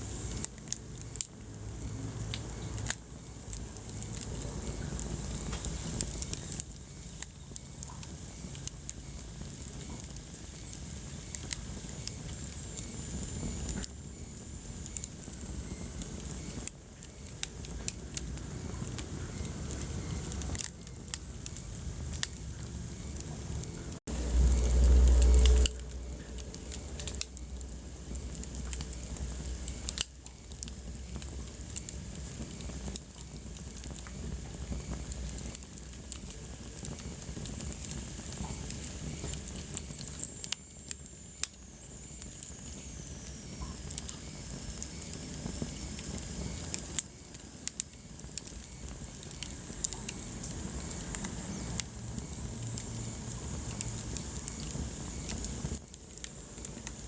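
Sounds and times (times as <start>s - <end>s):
flames rustling: 0.0s - 57.0s
wood fire crackling: 0.0s - 57.0s.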